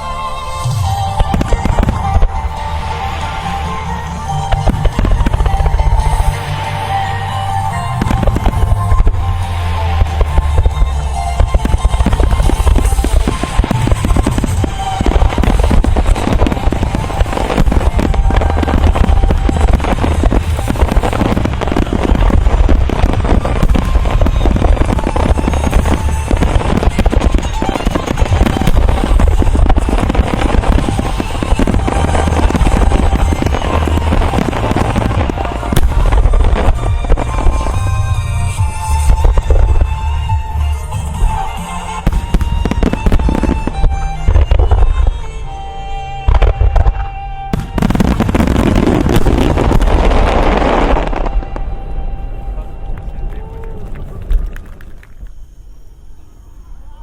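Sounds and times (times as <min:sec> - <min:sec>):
music over loudspeakers: 0:00.0 - 0:53.8
fireworks bursting: 0:00.0 - 0:55.9.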